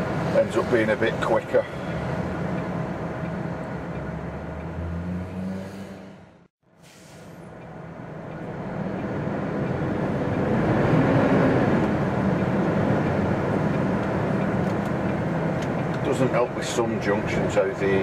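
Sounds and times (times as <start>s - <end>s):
lorry diesel engine: 0.0s - 18.0s
road noise: 0.0s - 18.0s.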